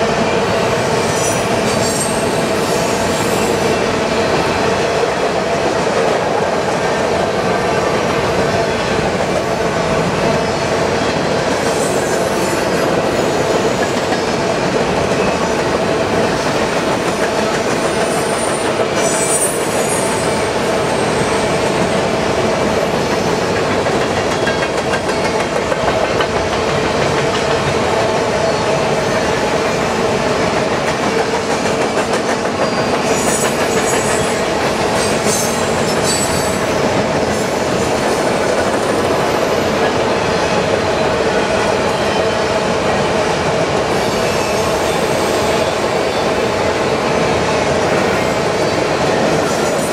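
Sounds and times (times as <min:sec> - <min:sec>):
train wheels clacking on rails: 0:00.0 - 0:49.9.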